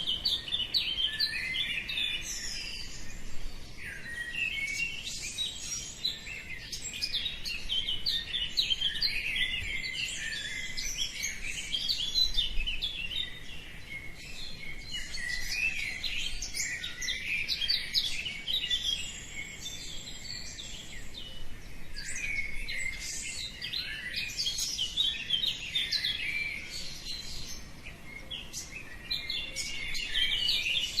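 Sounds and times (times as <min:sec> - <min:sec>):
dawn chorus of small birds: 0:00.0 - 0:31.0.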